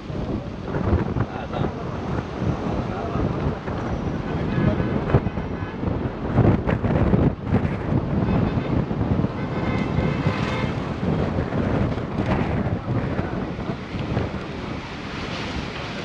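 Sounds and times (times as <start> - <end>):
vehicle driving: 0.0 - 16.0
wind buffeting microphone: 0.0 - 16.0.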